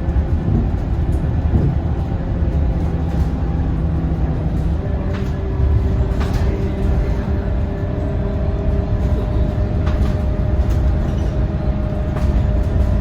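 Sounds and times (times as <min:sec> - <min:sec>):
bus engine rumbling: 0:00.0 - 0:13.0
drivetrain whine: 0:00.0 - 0:13.0.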